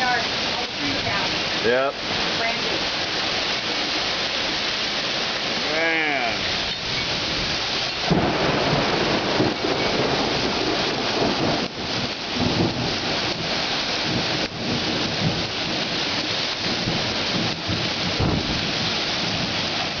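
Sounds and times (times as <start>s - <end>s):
intense rain pouring: 0.0s - 20.0s.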